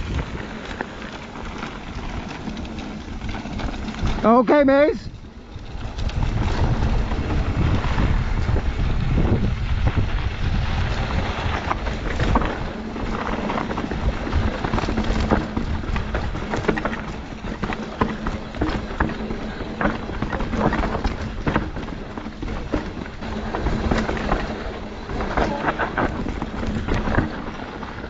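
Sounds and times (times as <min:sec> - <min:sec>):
bike clicks and rattles: 0:00.0 - 0:28.0
wind buffeting microphone: 0:00.0 - 0:28.0.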